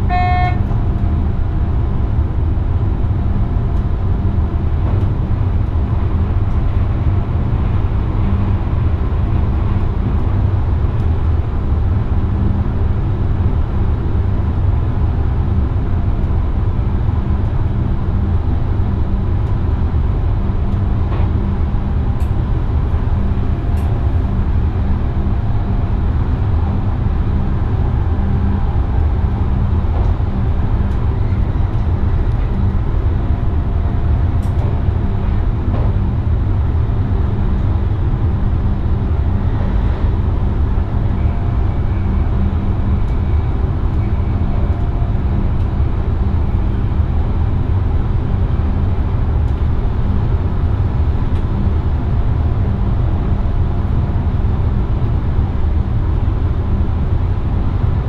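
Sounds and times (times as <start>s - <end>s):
steady low hum: 0.0s - 58.0s
wheels rumbling on rails: 0.0s - 58.0s.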